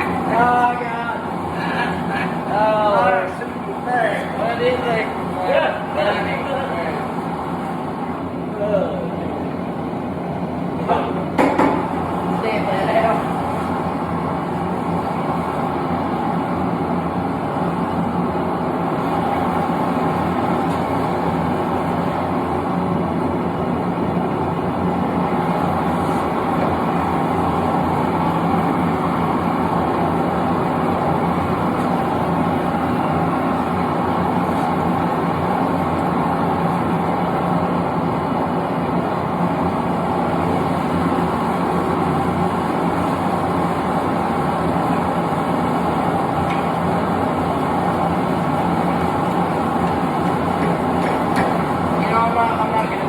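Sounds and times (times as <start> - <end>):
forge burner rushing: 0.0 - 53.0.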